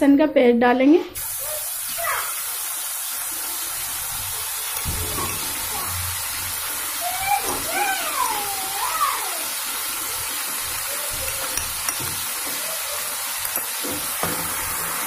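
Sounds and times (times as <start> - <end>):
paste sizzling in hot oil: 1.2 - 15.0.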